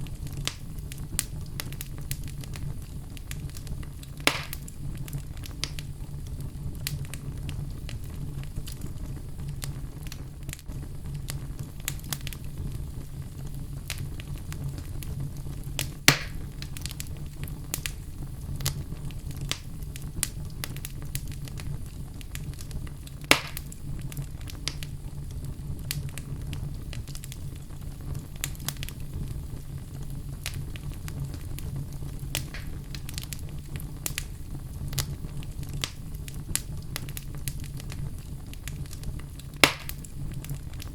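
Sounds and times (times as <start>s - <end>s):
fire crackling: 0.0s - 40.9s
fire sharp pops: 0.0s - 40.9s.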